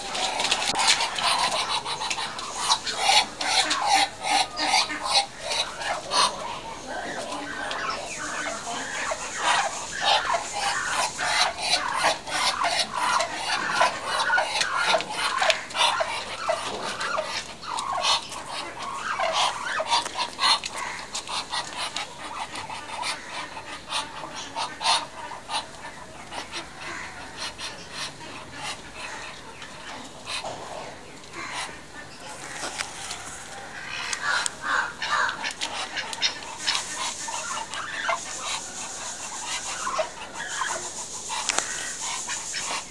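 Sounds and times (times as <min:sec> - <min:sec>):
ducks hissing: 0:00.0 - 0:42.9.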